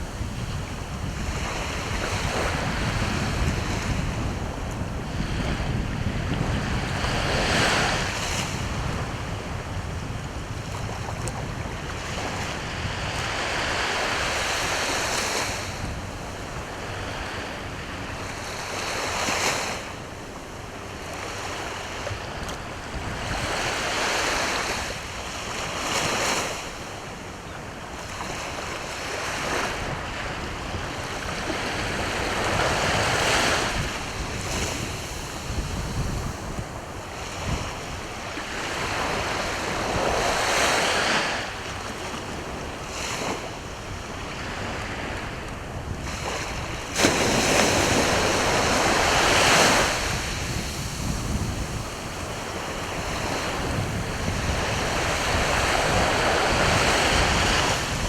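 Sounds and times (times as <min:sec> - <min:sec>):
sea waves breaking on shore: 0:00.0 - 0:58.0
wind rumbling on microphone: 0:00.0 - 0:58.0.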